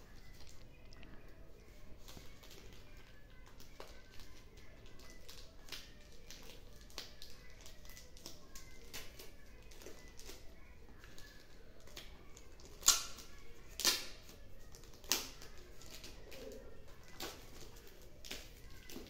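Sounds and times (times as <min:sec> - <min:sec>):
paper packaging crinkling: 0:00.0 - 0:19.0.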